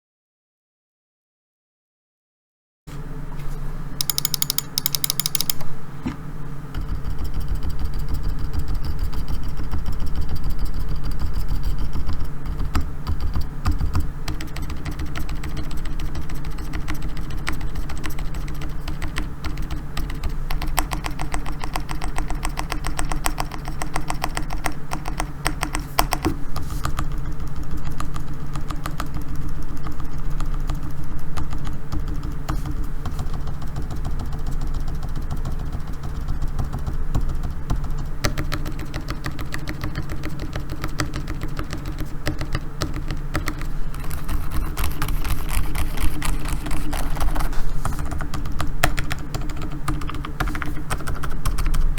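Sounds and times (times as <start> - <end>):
steady low hum: 2.9 - 51.9.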